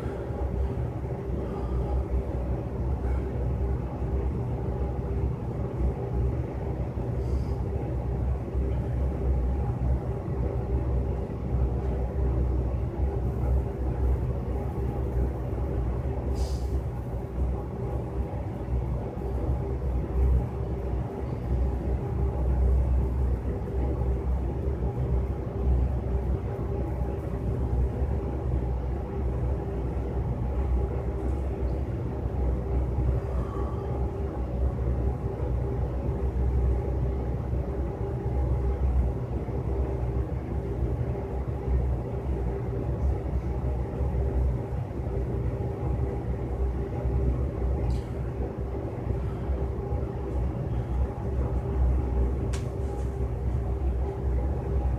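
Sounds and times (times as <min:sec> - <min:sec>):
low mechanical rumble and hum: 0:00.0 - 0:54.9.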